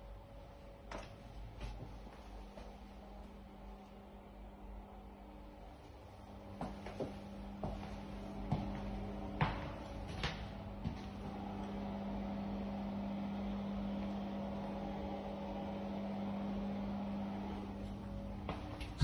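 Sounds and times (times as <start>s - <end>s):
electrical motor humming: 0.0s - 19.0s.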